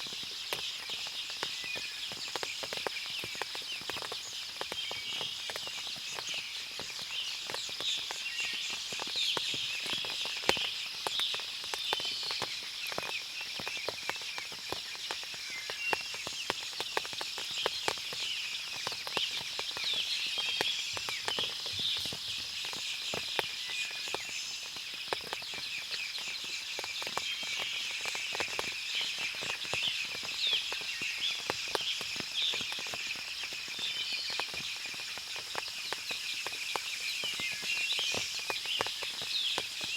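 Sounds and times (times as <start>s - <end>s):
small birds chirping: 0.0s - 39.9s
water dripping from trees: 0.0s - 39.9s.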